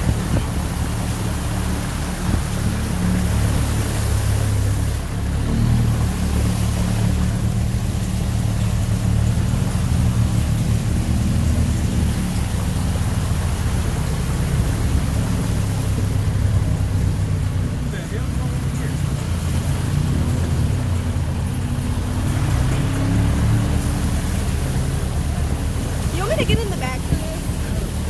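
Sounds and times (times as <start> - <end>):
diesel engine running: 0.0 - 28.0
water washing: 0.0 - 28.0.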